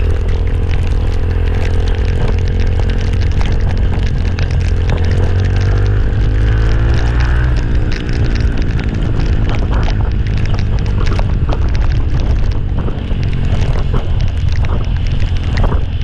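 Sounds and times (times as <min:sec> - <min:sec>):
crackles: 0:00.0 - 0:16.0
low engine drone: 0:00.0 - 0:16.0
wind buffeting microphone: 0:00.0 - 0:16.0.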